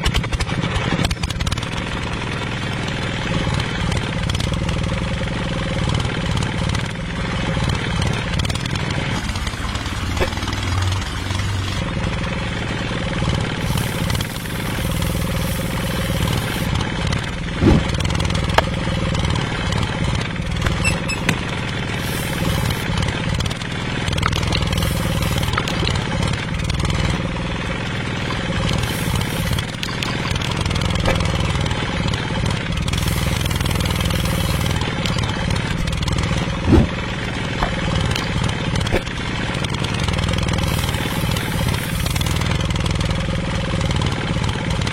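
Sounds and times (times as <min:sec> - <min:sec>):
engine running low rumble: 0:00.0 - 0:44.9.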